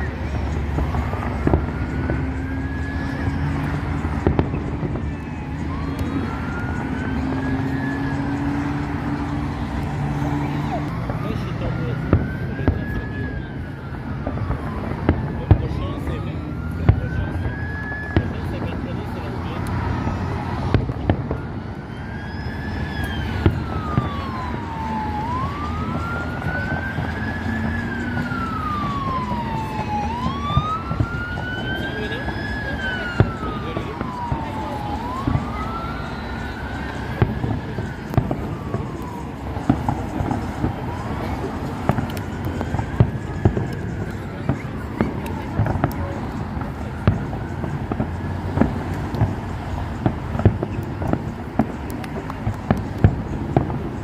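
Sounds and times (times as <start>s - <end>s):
siren wailing: 0.0s - 54.0s
vehicle engine hum: 0.0s - 54.0s.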